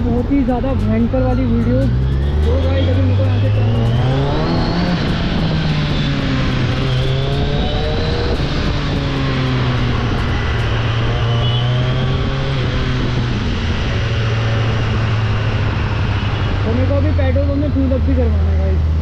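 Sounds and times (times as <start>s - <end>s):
motorcycle engine cruising: 0.0s - 19.0s
wind noise on microphone: 0.0s - 19.0s.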